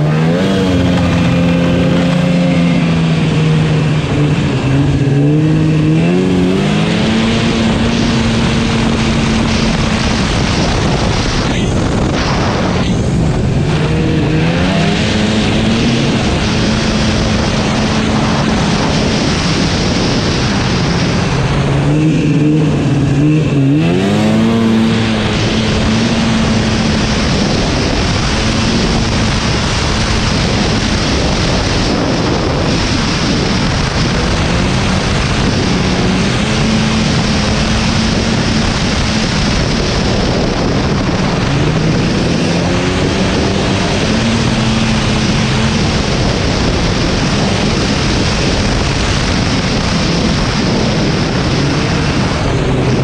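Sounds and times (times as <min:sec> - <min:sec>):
snowmobile engine: 0:00.0 - 0:53.0
steady rushing noise: 0:00.0 - 0:53.0.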